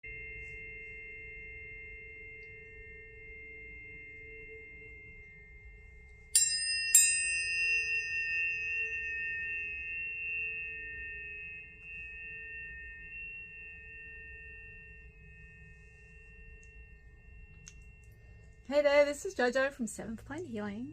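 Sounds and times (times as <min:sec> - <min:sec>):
tuning fork struck ping: 0:00.0 - 0:19.8
tuning forks ringing: 0:00.0 - 0:20.9.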